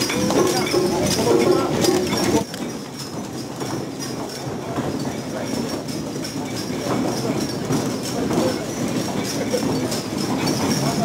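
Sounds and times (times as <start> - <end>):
hubbub of voices: 0.0 - 11.0
metal fittings clattering and jangling: 0.0 - 11.0.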